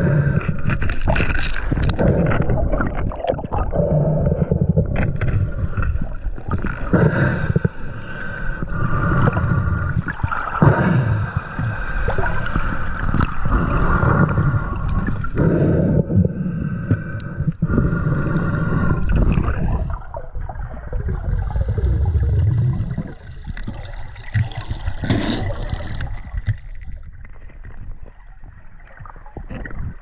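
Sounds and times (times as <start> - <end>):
water gurgling and sloshing underwater: 0.0 - 30.0.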